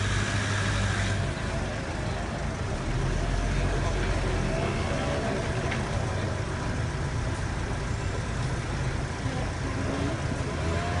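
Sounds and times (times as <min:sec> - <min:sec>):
street traffic: 0:00.0 - 0:11.0
vehicle engines idling: 0:00.0 - 0:11.0.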